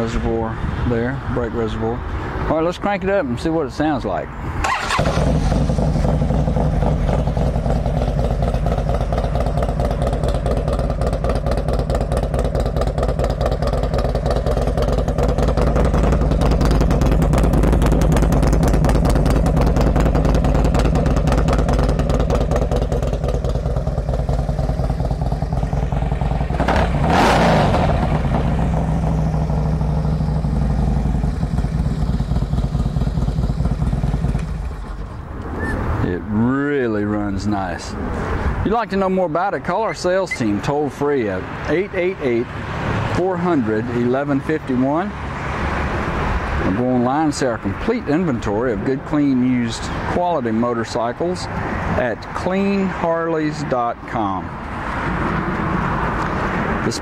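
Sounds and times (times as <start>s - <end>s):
motorcycle engine idling and revving: 4.4s - 57.0s.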